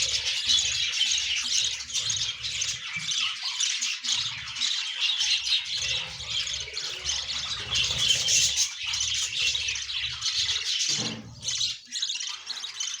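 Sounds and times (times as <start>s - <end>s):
budgerigars chattering and squawking: 0.0s - 13.0s.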